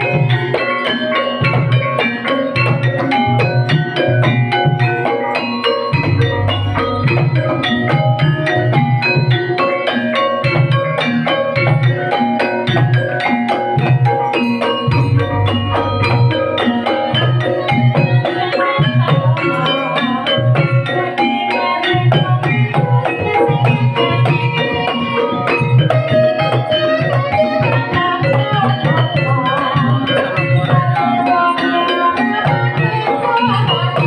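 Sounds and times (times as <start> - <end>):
bronze metallophones playing runs: 0.0 - 34.0
hand drumming: 0.0 - 34.0.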